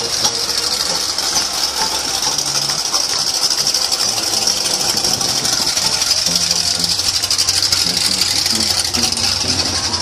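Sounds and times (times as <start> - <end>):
truck engine driving past: 0.0 - 10.0.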